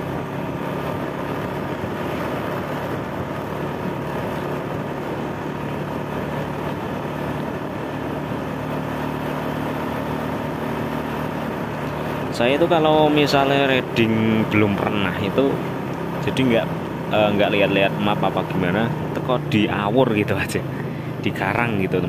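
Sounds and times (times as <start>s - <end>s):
vehicle engine hum and road noise: 0.0s - 22.0s.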